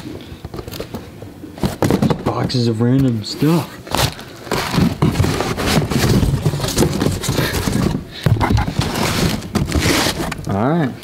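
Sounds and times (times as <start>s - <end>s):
cardboard rustling and scraping: 1.6s - 10.5s.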